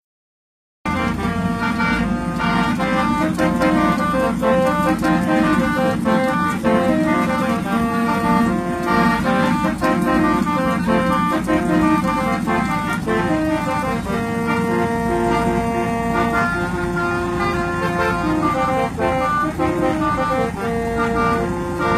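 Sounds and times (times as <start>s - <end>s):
engine running: 0.9s - 21.9s
multi-tone bus horn melody: 0.9s - 21.9s.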